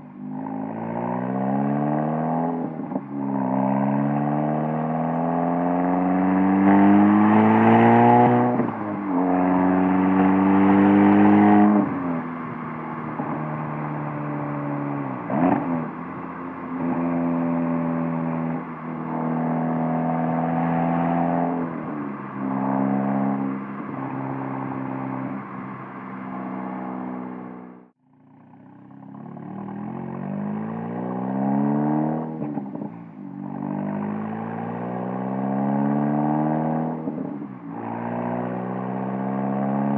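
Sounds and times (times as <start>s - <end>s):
car exhaust accelerating through gears: 0.0s - 39.9s.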